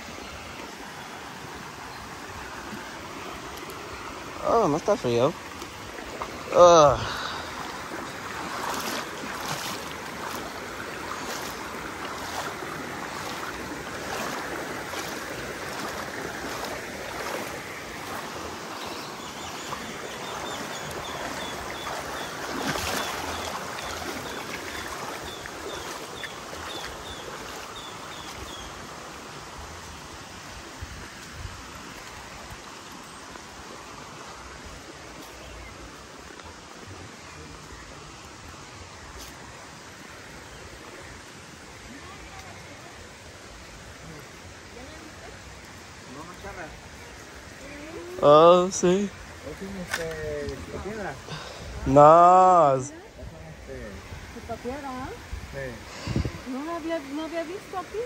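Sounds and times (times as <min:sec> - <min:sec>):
shallow river water flowing: 0:00.0 - 0:58.0
splashes of people wading: 0:00.6 - 0:29.4, 0:31.0 - 0:58.0.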